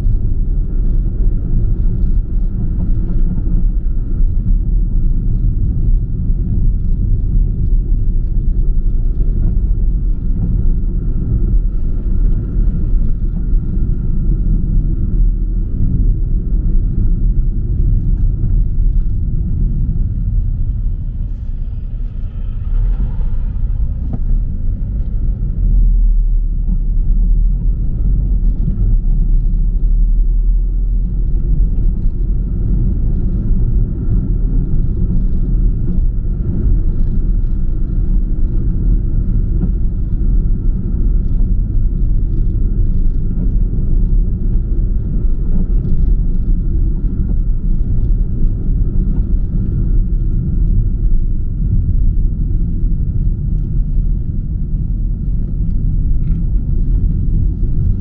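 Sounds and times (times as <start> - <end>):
tyre and engine rumble: 0.0 - 58.0.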